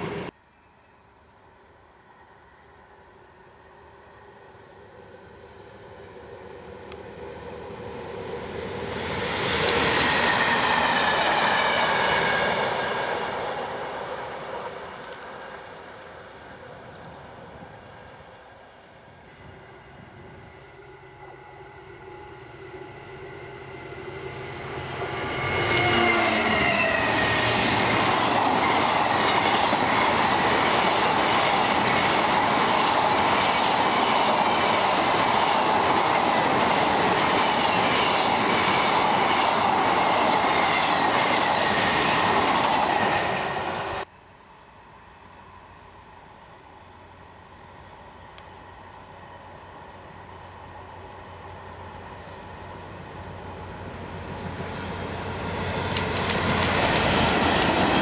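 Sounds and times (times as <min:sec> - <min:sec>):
diesel locomotive passing: 0:00.0 - 0:58.0
freight train passing: 0:00.0 - 0:58.0.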